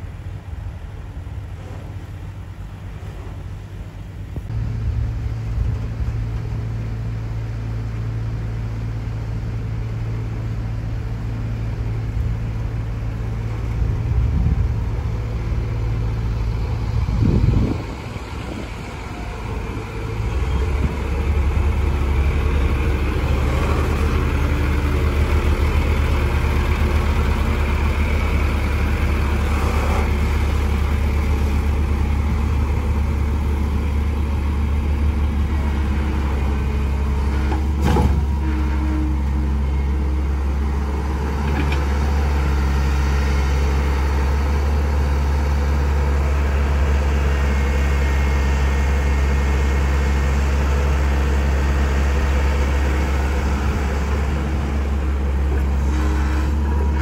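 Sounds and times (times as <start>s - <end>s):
dump truck diesel engine: 0.0s - 57.0s.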